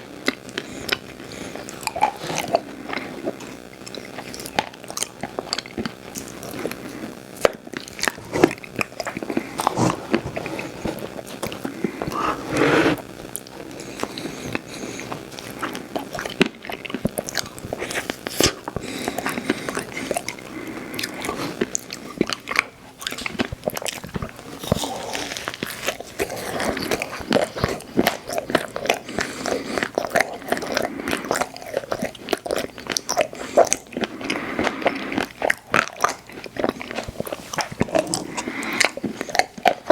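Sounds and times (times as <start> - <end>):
chewing and biting ice cream: 0.0 - 39.9.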